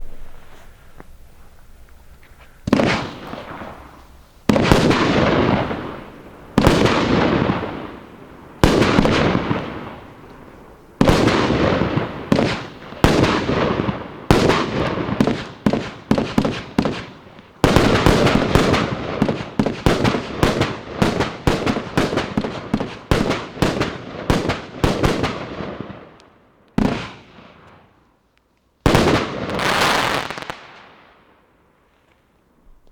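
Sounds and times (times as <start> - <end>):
fireworks shots crackling: 0.0 - 28.0, 28.8 - 31.3.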